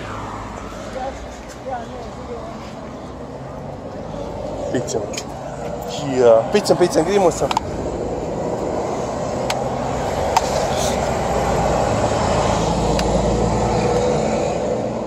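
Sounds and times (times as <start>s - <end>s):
passing motor vehicle rumble: 0.0s - 15.0s.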